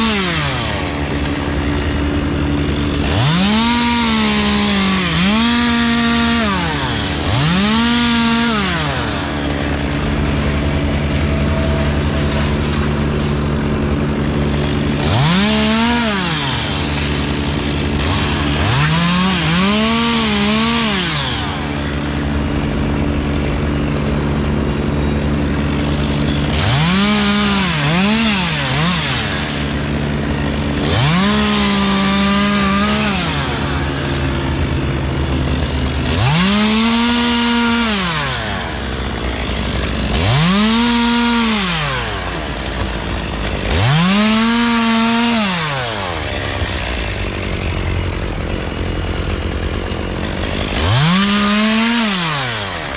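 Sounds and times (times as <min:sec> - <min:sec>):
chainsaw revving: 0:00.0 - 0:52.9.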